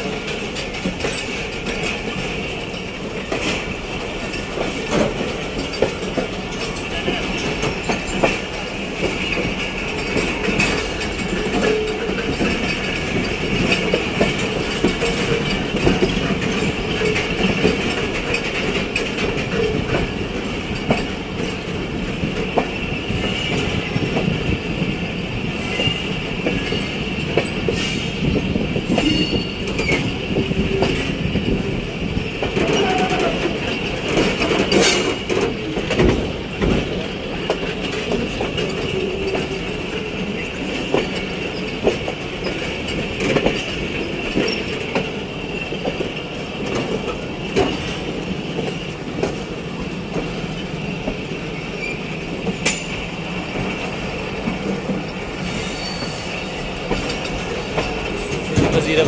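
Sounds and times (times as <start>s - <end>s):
train wheel running noise: 0.0s - 59.0s
wheels clicking over rail joints: 0.0s - 59.0s.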